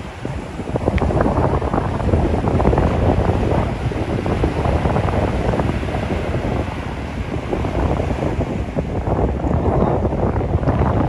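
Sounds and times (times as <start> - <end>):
sea waves washing: 0.0 - 11.0
wind buffeting microphone: 0.0 - 11.0.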